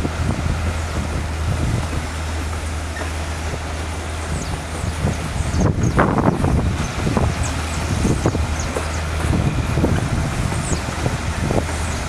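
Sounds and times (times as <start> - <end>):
rail motor car engine running: 0.0 - 12.0
wind on microphone: 0.0 - 12.0.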